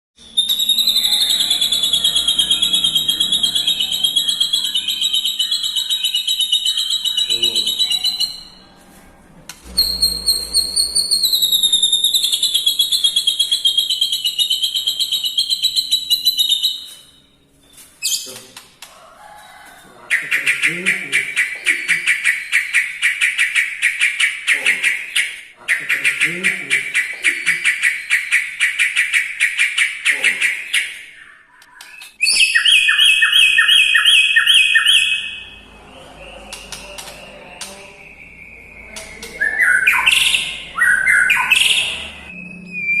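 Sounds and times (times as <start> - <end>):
bird singing rapid trill: 0.2 - 8.7, 9.6 - 18.4, 20.1 - 43.0
songbird chirping: 0.2 - 43.0.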